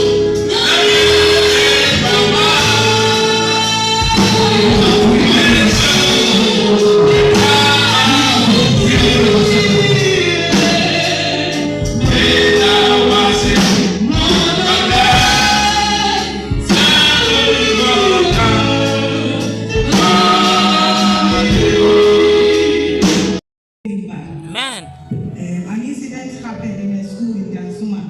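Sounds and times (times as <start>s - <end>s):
gospel choir singing: 0.0s - 23.0s.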